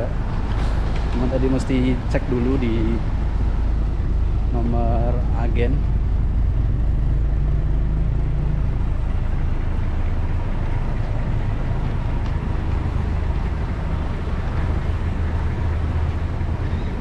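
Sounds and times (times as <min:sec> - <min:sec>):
bus engines rumbling: 0:00.0 - 0:17.0
traffic noise: 0:00.0 - 0:17.0.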